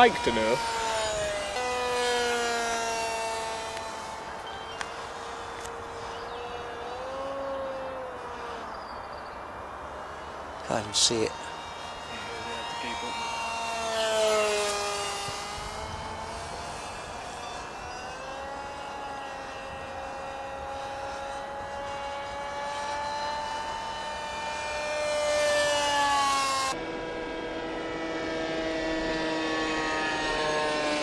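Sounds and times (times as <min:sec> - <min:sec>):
model plane propeller whine: 0:00.0 - 0:31.0.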